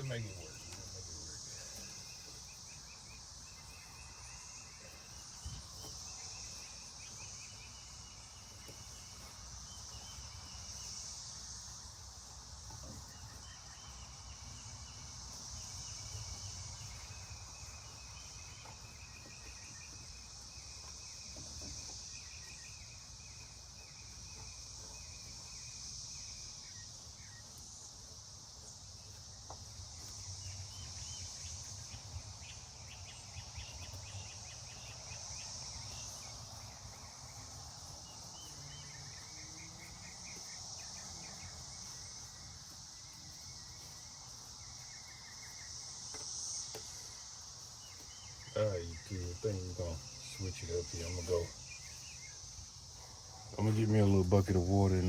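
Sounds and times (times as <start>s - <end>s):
insect trills: 0.0s - 55.0s
insects high drone: 0.0s - 55.0s.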